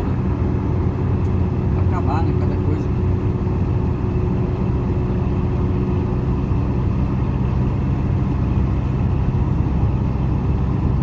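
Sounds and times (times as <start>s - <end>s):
diesel engine drone from inside cab: 0.0s - 11.0s.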